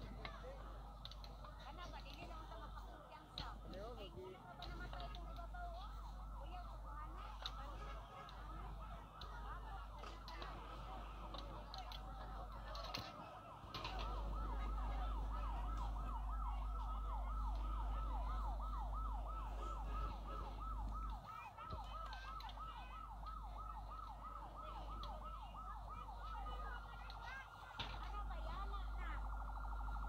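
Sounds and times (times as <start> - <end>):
fire truck siren yelping: 0.0 - 30.0.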